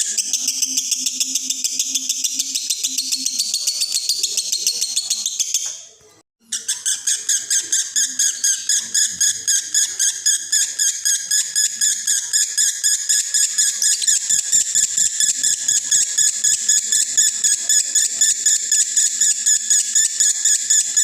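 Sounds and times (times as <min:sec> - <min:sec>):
lovebird chattering song: 0:00.0 - 0:05.9, 0:06.5 - 0:21.0.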